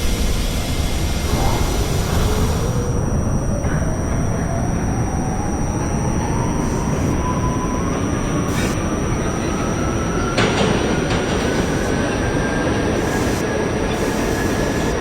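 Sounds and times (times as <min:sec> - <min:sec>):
train wheels rumbling on track: 0:00.0 - 0:15.0
train whine rising in pitch: 0:00.0 - 0:15.0.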